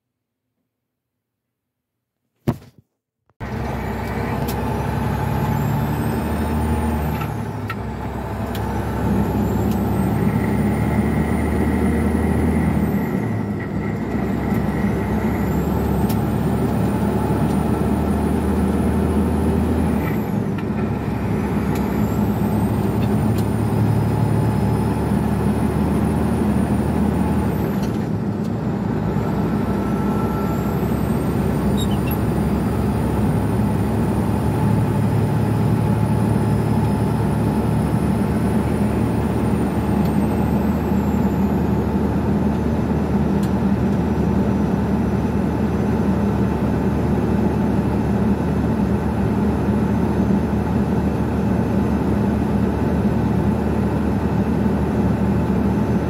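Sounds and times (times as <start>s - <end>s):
high engine whine: 3.4s - 56.0s
truck diesel engine: 3.4s - 56.0s.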